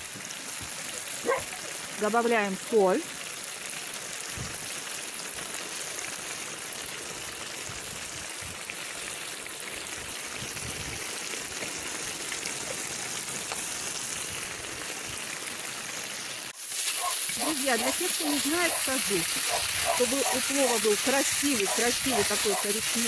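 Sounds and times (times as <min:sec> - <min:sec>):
meat and onions sizzling in oil: 0:00.0 - 0:23.0.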